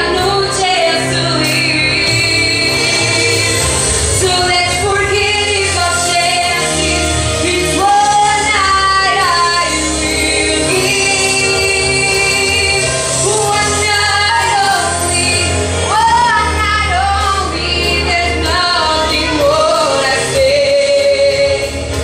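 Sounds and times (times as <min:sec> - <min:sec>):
instrumental accompaniment with bass: 0:00.0 - 0:22.0
woman singing soul ballad: 0:00.0 - 0:22.0.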